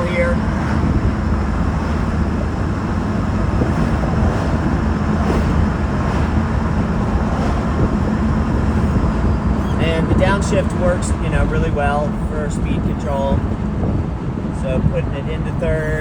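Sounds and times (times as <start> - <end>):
diesel engine running: 0.0 - 16.0
wind and road noise: 0.0 - 16.0.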